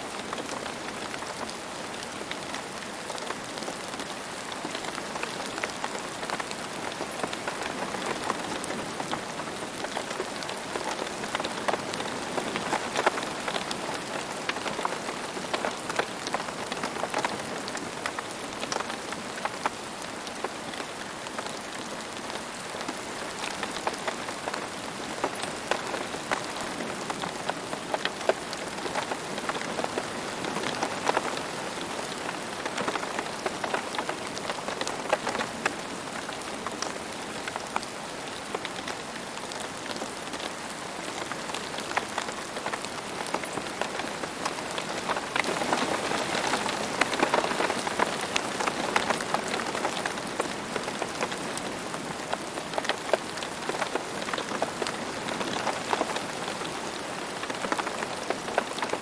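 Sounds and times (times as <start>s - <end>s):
rain drops striking a surface: 0.0s - 59.0s.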